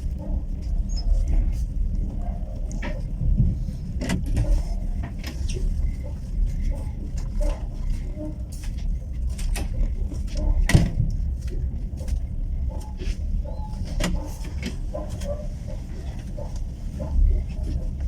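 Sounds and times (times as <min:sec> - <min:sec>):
railway carriage rumble: 0:00.0 - 0:18.0
track clicks and rattles: 0:00.0 - 0:18.0.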